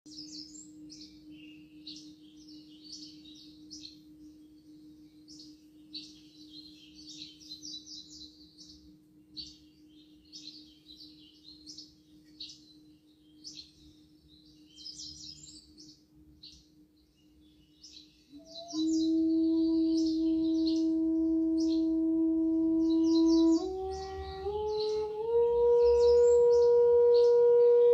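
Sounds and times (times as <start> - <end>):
birds chirping: 0.1 - 27.9
singing bowl ringing hum: 0.1 - 27.9.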